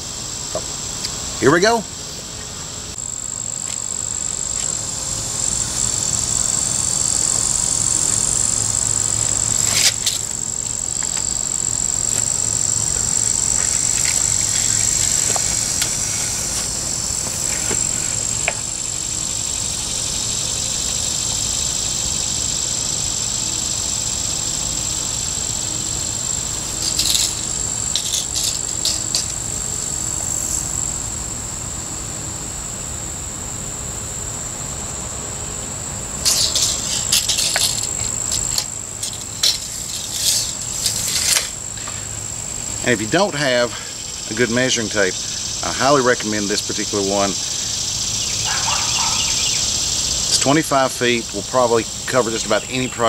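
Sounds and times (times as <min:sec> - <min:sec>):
insects chirping: 0:00.0 - 0:53.0.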